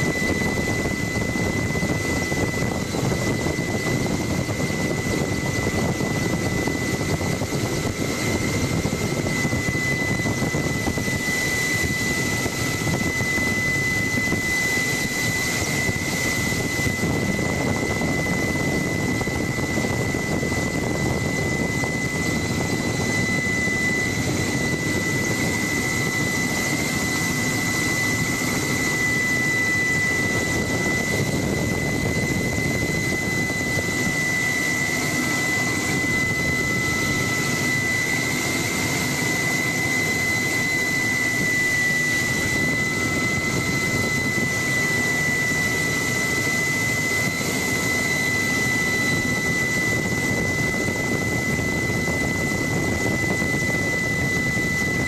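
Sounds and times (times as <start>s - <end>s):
helicopter turbine and rotor: 0.0s - 55.0s.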